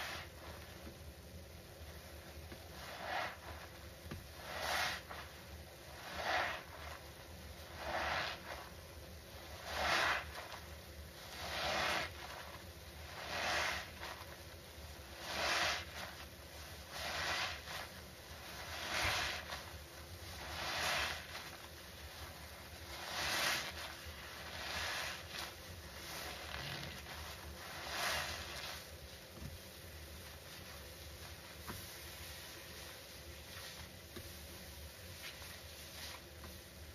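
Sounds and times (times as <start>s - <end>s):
sponge squelching with foam hiss: 0.0s - 36.9s.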